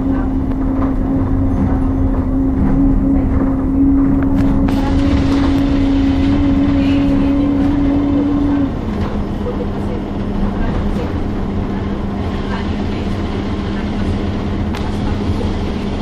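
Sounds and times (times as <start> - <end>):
bus engine drone: 0.0 - 16.0
low rumble: 0.0 - 16.0.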